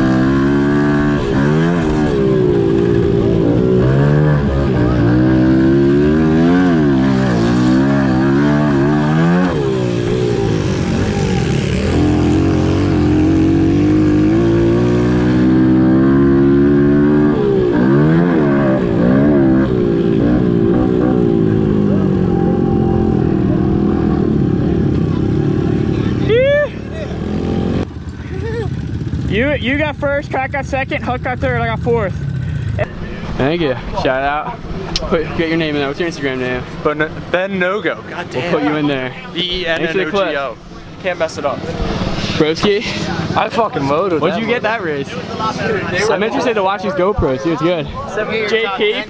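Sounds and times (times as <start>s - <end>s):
small motorcycle engine revving: 0.0s - 28.0s, 32.8s - 46.5s.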